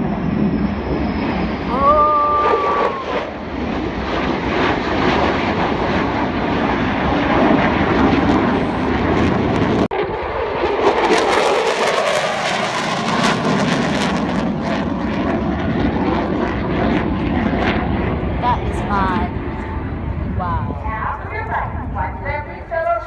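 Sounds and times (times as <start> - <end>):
aircraft engine rush: 0.0 - 23.0.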